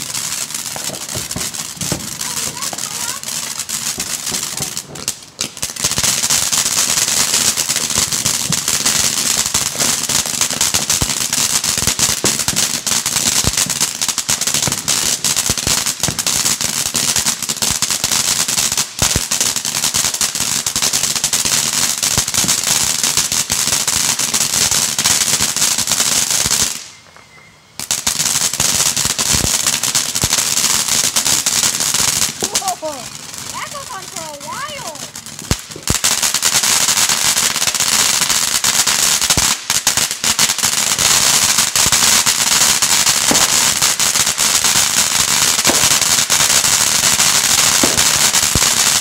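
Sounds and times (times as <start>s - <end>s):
firework fountain hissing and crackling: 0.0s - 49.0s.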